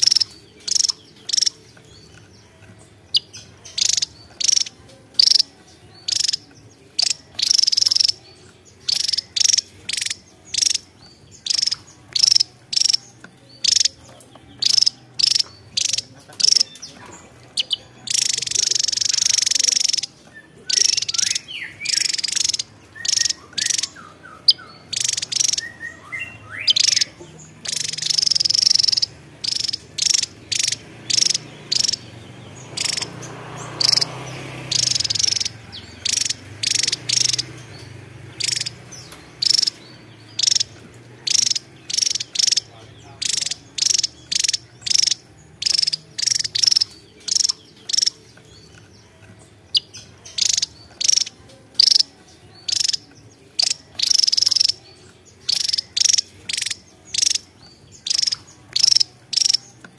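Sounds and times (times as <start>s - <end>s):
bird singing high-pitched notes: 0.0s - 59.9s.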